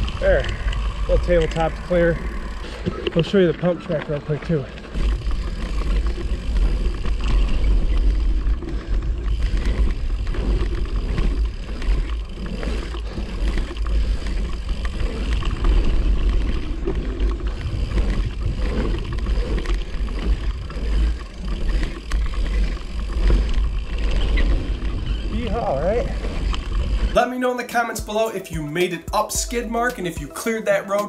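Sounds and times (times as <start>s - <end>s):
wind buffeting microphone: 0.0s - 27.2s
tyres rolling over dirt: 0.0s - 31.0s.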